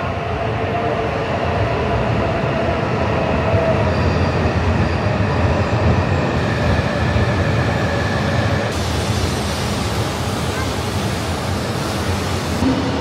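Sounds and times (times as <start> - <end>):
train rolling noise: 0.0 - 13.0
train whine: 0.0 - 13.0.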